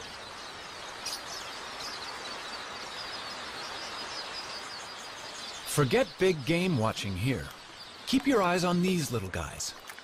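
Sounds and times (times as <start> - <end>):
flock of birds chirping: 0.0 - 10.0.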